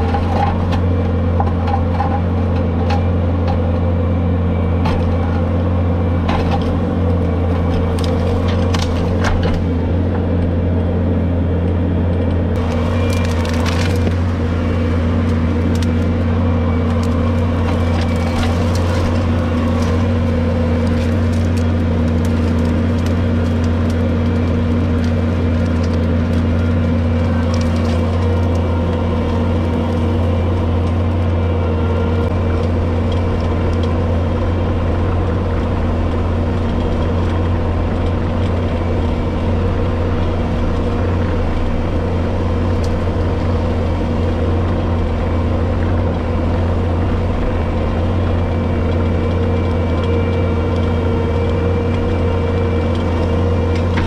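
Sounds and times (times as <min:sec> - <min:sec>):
woody stems cracking and splintering: 0:00.0 - 0:10.9, 0:11.6 - 0:54.0
brush mower humming: 0:00.0 - 0:54.0.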